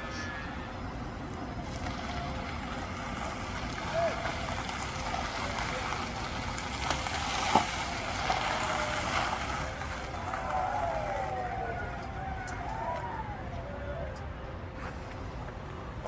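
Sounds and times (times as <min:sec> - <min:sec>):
distant traffic: 0:00.0 - 0:16.0
wind: 0:00.0 - 0:16.0.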